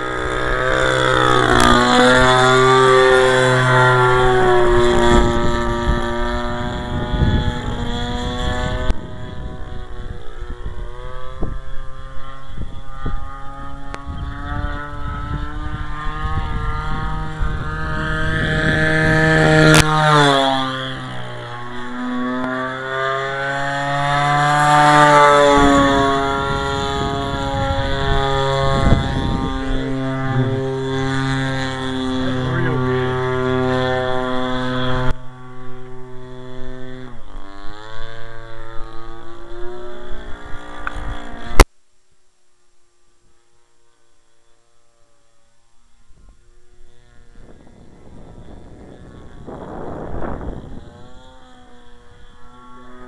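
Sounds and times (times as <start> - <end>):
wind buffeting microphone: 0.0 - 22.3, 23.6 - 41.4, 46.1 - 53.0
model plane engine: 0.0 - 41.7, 42.6 - 53.0.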